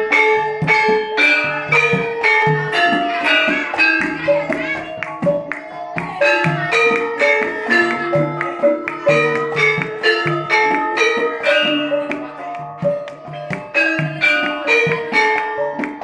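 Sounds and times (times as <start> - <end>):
metallophones and gongs ringing: 0.0 - 16.0.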